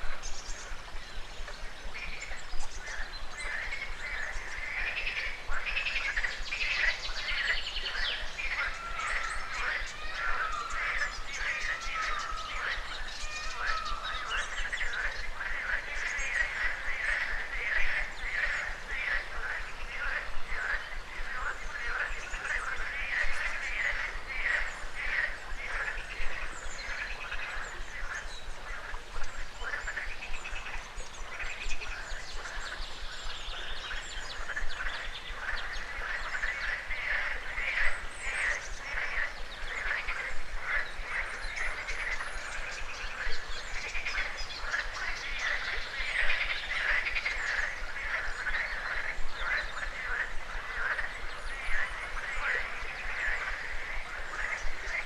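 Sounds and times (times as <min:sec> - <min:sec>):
bird calls: 0:00.0 - 0:55.0
frogs croaking: 0:00.0 - 0:55.0.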